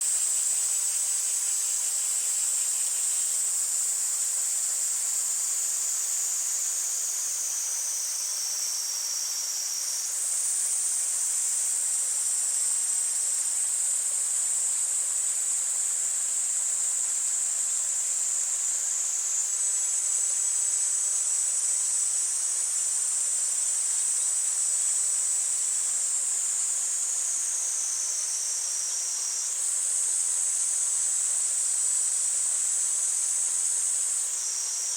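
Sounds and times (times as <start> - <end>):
cicadas shrilling: 0.1 - 34.9.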